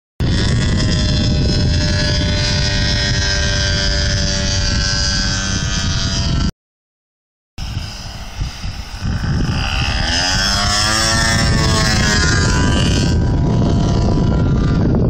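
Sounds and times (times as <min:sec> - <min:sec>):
model aircraft motor drone: 0:00.2 - 0:06.5, 0:07.6 - 0:15.0
wind buffeting microphone: 0:00.2 - 0:06.5, 0:07.6 - 0:15.0.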